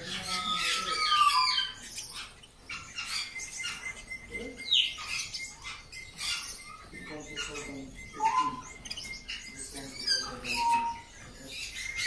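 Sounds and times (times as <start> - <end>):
canaries chirping: 0.0 - 12.0.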